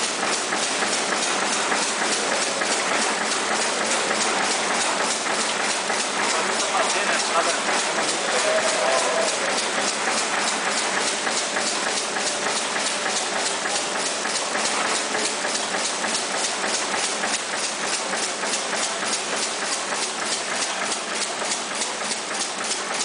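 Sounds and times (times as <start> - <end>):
machine ticking rhythmically: 0.0 - 23.0
steady mechanical hum: 0.0 - 23.0.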